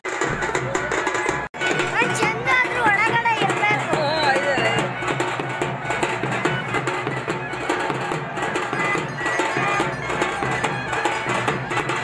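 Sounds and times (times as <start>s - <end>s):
fast drumming and percussion: 0.0s - 12.0s
held melody line: 1.6s - 12.0s.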